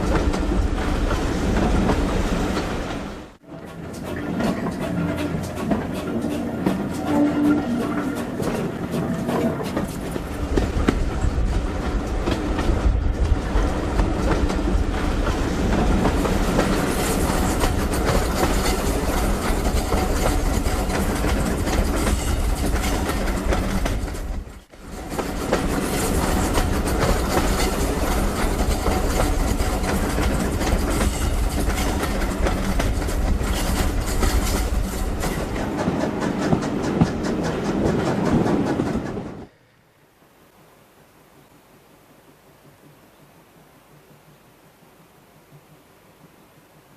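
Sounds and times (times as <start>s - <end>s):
train wheels clattering over rails: 0.0s - 39.5s.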